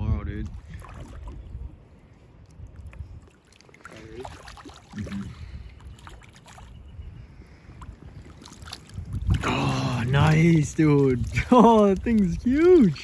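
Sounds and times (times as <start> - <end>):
faint stream: 0.0 - 13.0
wind rumbling on microphone: 0.0 - 13.0.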